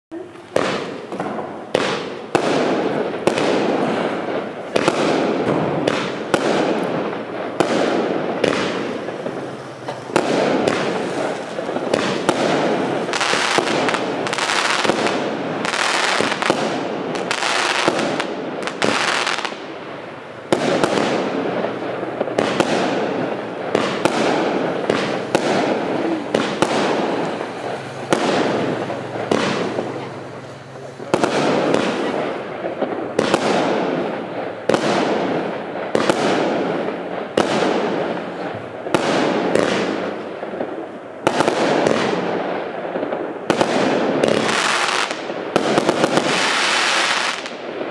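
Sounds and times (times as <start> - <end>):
continuous rushing noise: 0.1 - 46.3
firework aerial bursts: 0.1 - 47.9.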